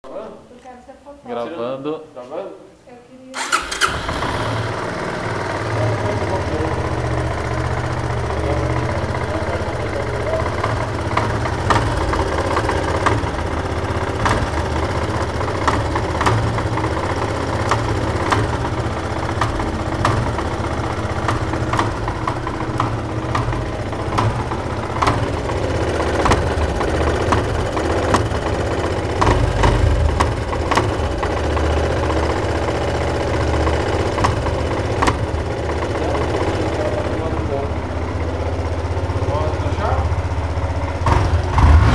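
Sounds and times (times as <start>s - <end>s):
motorcycle engine idling: 3.4s - 41.9s
sharp engine knocks: 5.9s - 38.3s, 39.8s - 41.9s.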